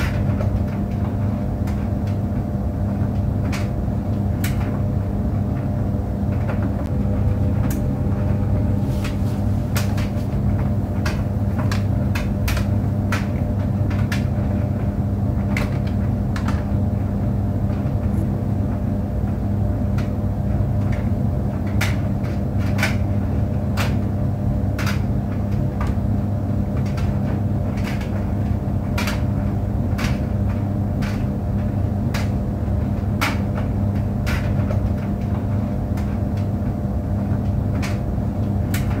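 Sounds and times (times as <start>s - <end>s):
tumble dryer humming: 0.0s - 39.0s.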